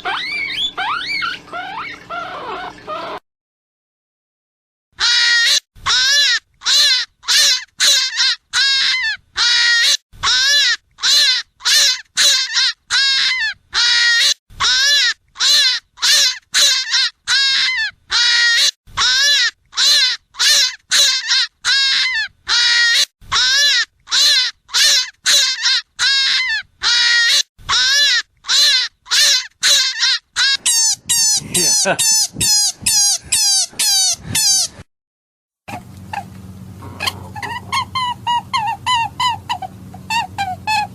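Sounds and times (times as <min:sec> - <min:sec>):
hare squealing calls: 0:00.0 - 0:03.2, 0:05.0 - 0:34.8, 0:35.7 - 0:40.9.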